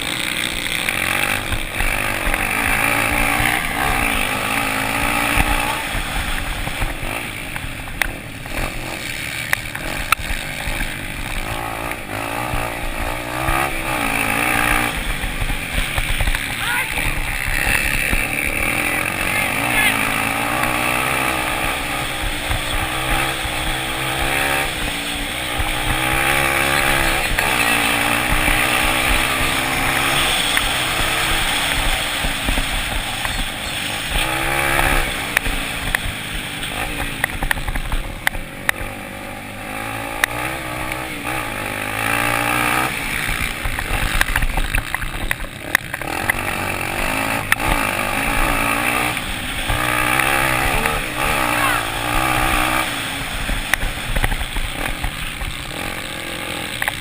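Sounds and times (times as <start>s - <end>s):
motorcycles racing: 0.0s - 57.0s.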